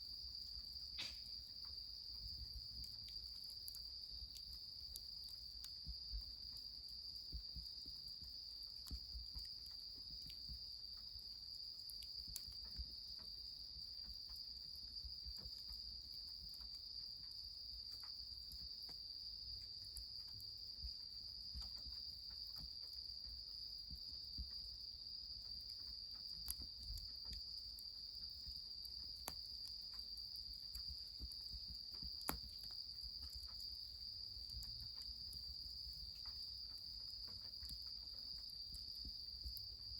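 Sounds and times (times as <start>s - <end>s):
insects chirring: 0.0s - 39.9s
wood fire crackling: 0.0s - 39.9s.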